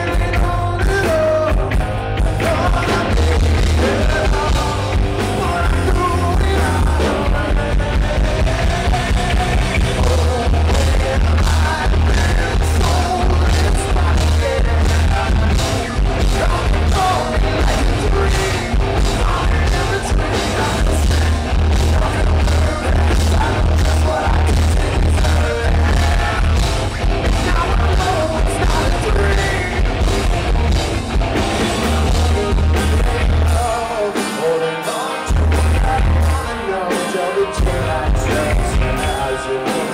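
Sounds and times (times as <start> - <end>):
bass guitar: 0.0 - 39.9
drums: 0.0 - 39.9
electric guitars: 0.0 - 39.9
man singing: 0.0 - 39.9.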